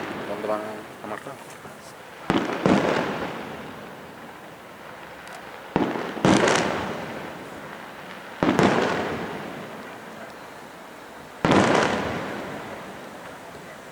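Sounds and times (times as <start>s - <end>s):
fireworks bangs with rumble: 0.0s - 13.9s
fireworks crackle: 0.0s - 13.9s.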